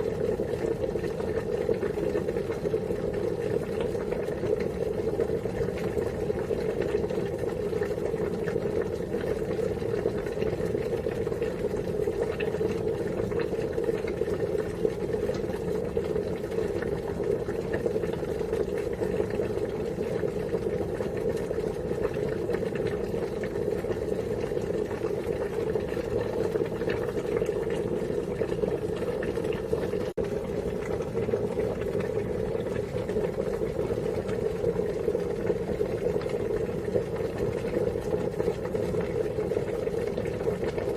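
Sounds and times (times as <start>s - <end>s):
water boiling: 0.0s - 40.9s.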